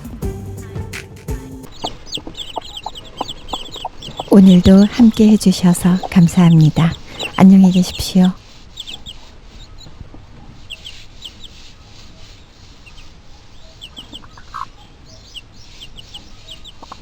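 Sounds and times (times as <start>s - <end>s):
background hiss: 0.0s - 17.0s
birds chirping: 1.4s - 17.0s.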